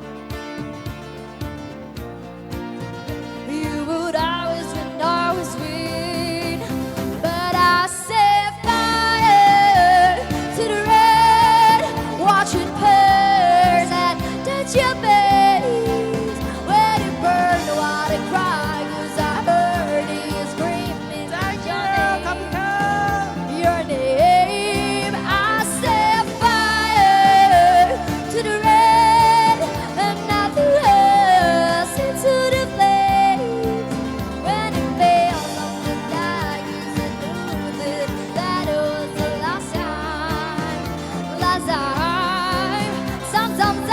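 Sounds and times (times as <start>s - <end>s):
amplified instrumental backing: 0.0s - 43.9s
person singing with vibrato: 3.5s - 43.9s.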